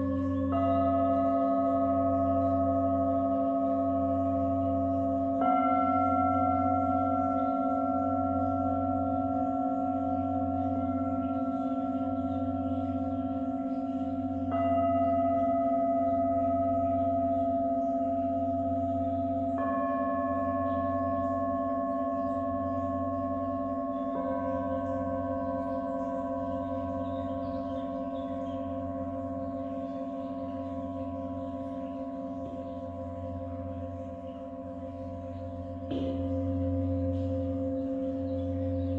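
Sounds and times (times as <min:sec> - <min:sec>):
singing bowls ringing: 0:00.0 - 0:38.9.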